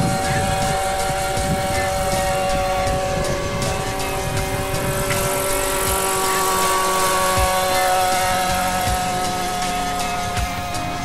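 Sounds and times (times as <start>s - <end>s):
model helicopter whine: 0.0s - 11.0s
rotor whir: 0.0s - 11.0s
wind rumble on microphone: 0.0s - 11.0s.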